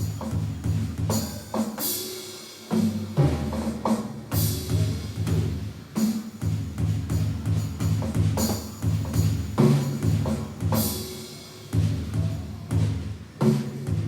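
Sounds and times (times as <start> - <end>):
timpani drumming: 0.0 - 14.0.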